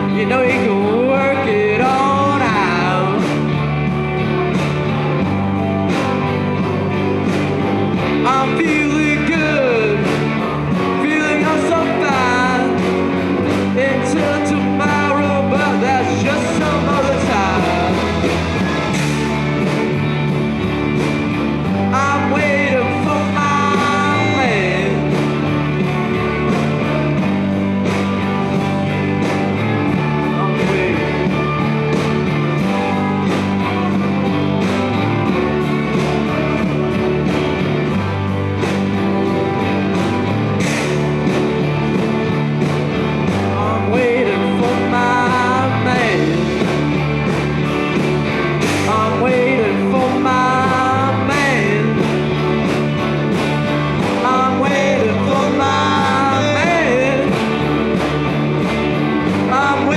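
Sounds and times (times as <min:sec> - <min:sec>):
bending lead guitar lines: 0:00.0 - 0:59.9
rock band playing: 0:00.0 - 0:59.9.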